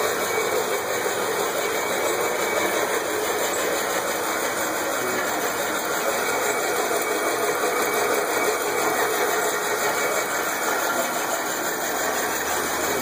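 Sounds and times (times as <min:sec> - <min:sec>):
tractor gears turning: 0:00.0 - 0:13.0.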